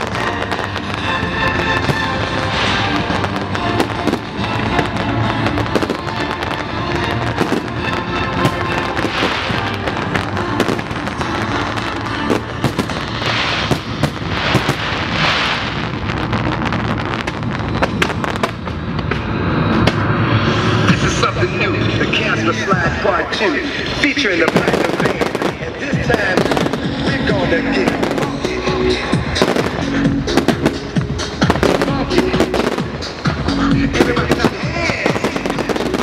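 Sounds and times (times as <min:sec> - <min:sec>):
rock music: 0:00.0 - 0:16.7, 0:19.5 - 0:36.0
fireworks banging and crackling: 0:00.0 - 0:36.0
fireworks hissing: 0:00.0 - 0:36.0.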